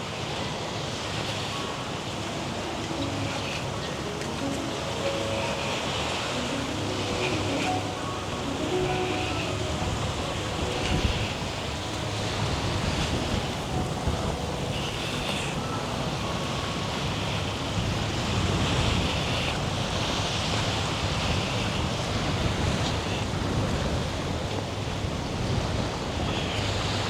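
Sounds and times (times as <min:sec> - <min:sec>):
sea waves washing ashore: 0:00.0 - 0:27.0
wind rumbling on microphone: 0:00.7 - 0:27.0.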